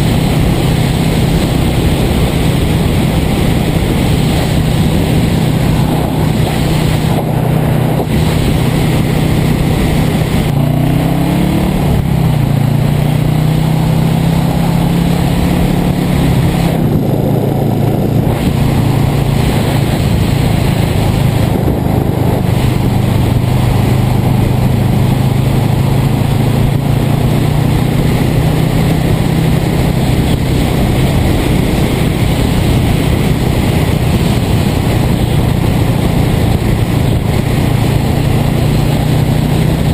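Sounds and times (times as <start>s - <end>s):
motorcycle engine running: 0.0s - 39.9s
wind rushing past microphone: 0.0s - 39.9s.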